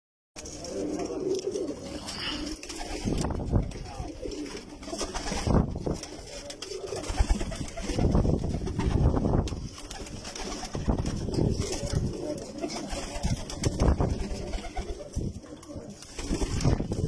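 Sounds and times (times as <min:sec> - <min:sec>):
pigeons cooing: 0:00.4 - 0:17.0.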